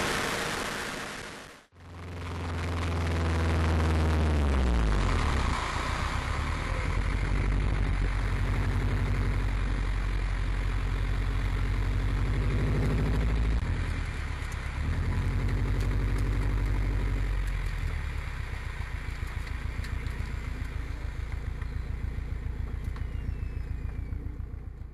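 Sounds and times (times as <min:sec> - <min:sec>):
car engine at low revs: 0:00.0 - 0:24.9.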